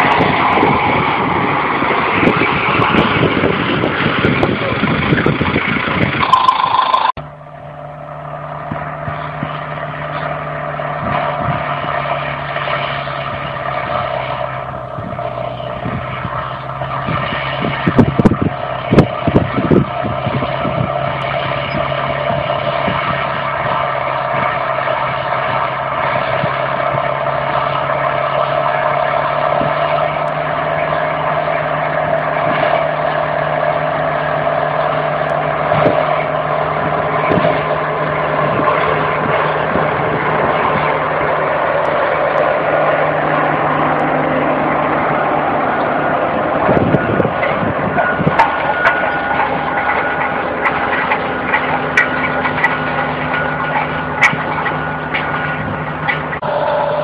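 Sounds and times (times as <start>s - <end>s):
tractor engine pulling under load: 0.0s - 57.0s.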